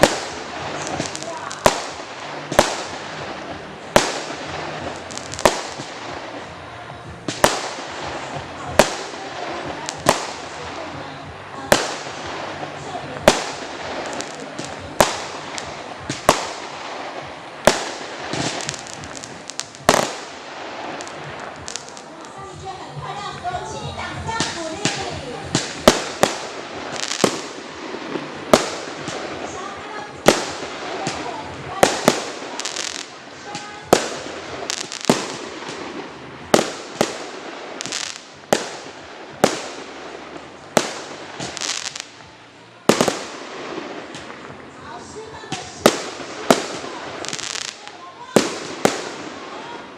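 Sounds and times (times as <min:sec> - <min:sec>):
fireworks bangs with echo: 0:00.0 - 0:49.9
fireworks crackling: 0:00.0 - 0:49.9.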